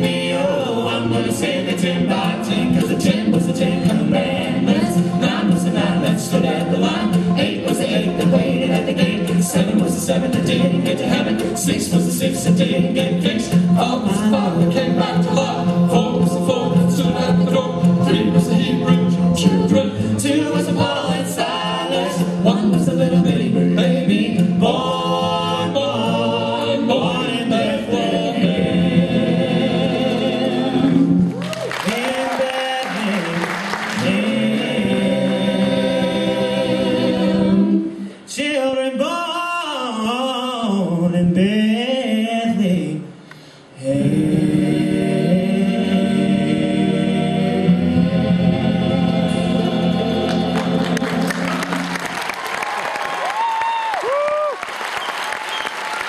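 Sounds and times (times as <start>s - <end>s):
group singing in harmony: 0.0s - 53.4s.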